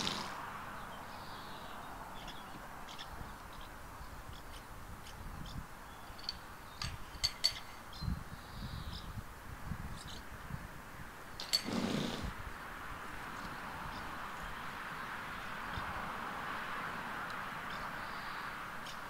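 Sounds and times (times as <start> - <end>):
small birds chirping: 0.0 - 19.0
wind rumbling on microphone: 0.0 - 19.0.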